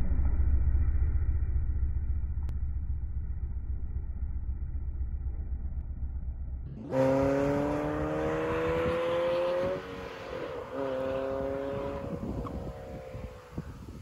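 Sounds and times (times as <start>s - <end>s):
car engine accelerating: 2.4s - 14.0s.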